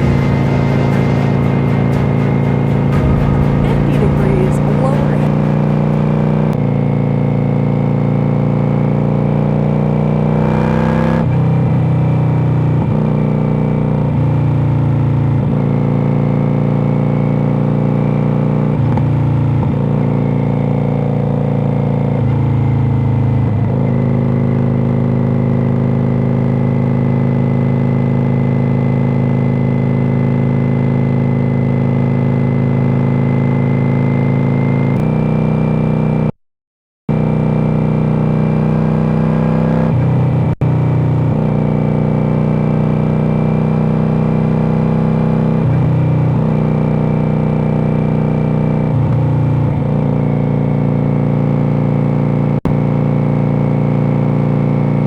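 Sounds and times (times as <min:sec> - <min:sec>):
motorcycle engine with loud pipes: 0:00.0 - 0:36.3, 0:37.1 - 0:55.0.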